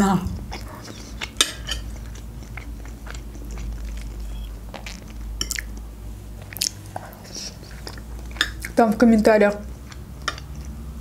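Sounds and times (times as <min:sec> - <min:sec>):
steady low hum: 0:00.0 - 0:11.0
chewing soft food: 0:00.3 - 0:08.8, 0:09.5 - 0:11.0.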